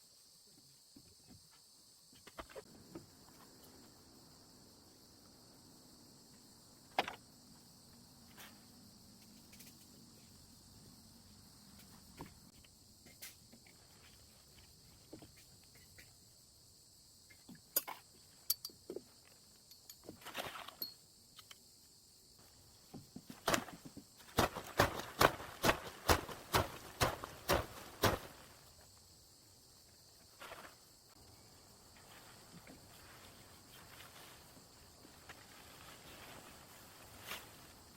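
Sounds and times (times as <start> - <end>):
crickets chirring: 0.0 - 37.9.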